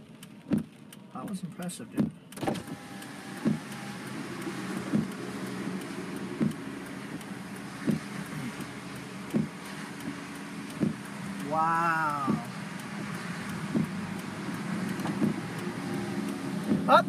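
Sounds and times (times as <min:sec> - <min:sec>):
steady hum inside car: 0:00.0 - 0:17.0
windshield wipers thumping: 0:00.0 - 0:17.0.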